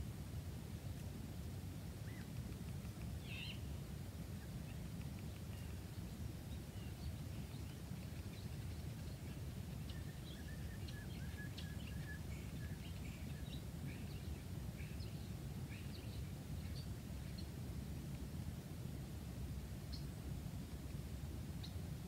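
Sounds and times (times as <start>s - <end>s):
songbirds chirping: 1.8s - 22.0s.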